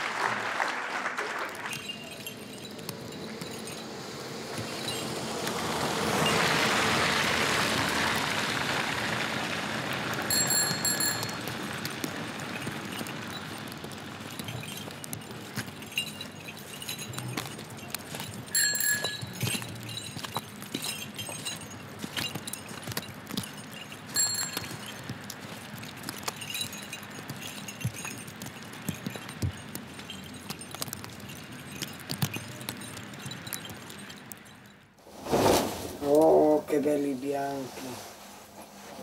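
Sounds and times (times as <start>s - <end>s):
footsteps: 0.0s - 36.3s
small bells jingling: 0.1s - 35.0s
walking cane tapping: 1.6s - 6.5s, 8.1s - 34.8s.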